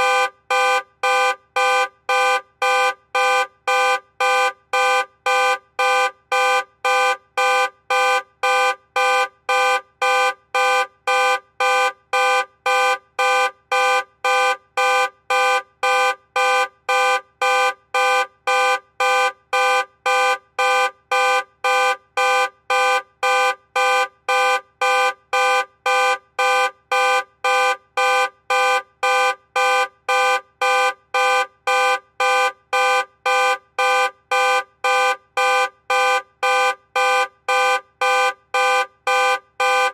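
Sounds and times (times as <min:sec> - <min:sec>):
car alarm horn pulsing: 0:00.0 - 0:39.9.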